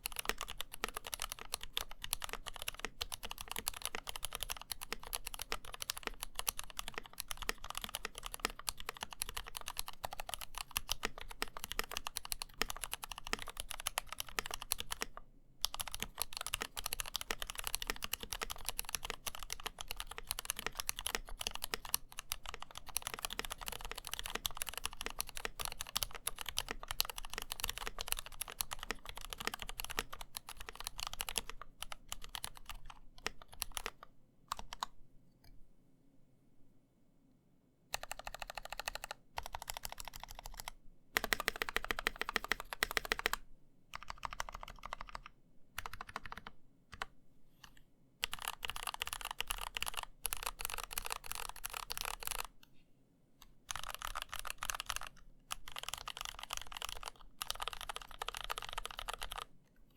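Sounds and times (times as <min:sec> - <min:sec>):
mechanical keyboard typing: 0:00.0 - 0:34.9, 0:37.9 - 0:47.1, 0:48.2 - 0:52.6, 0:53.4 - 0:59.6.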